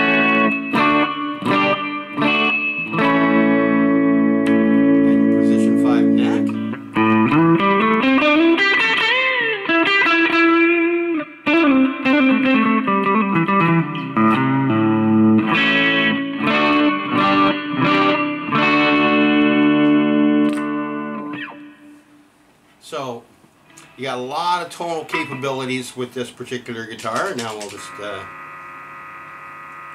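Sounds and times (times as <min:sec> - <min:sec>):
clean electric guitar playing: 0:00.0 - 0:22.2, 0:23.6 - 0:26.0, 0:27.6 - 0:29.4.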